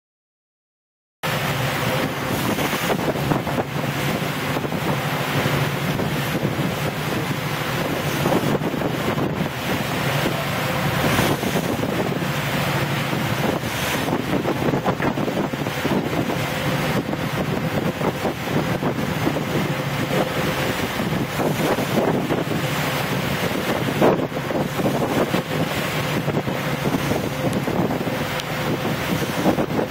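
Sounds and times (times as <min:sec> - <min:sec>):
boat motor humming: 0:01.2 - 0:29.9
water rushing past hull: 0:01.2 - 0:29.9
wind buffeting microphone: 0:01.3 - 0:29.9.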